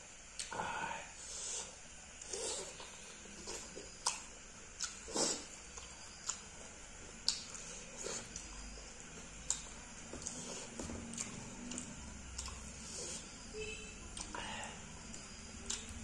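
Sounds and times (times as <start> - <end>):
person chewing food: 1.4 - 13.4, 14.0 - 16.0.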